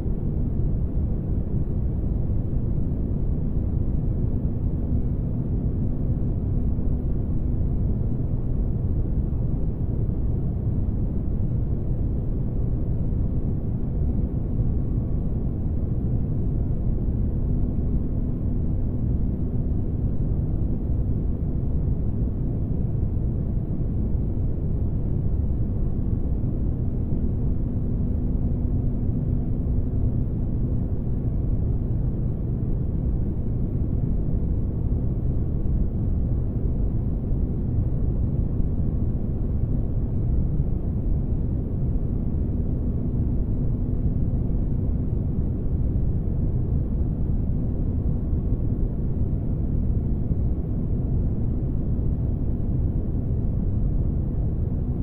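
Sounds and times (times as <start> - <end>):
deep rumble with humming tone: 0.0 - 55.0.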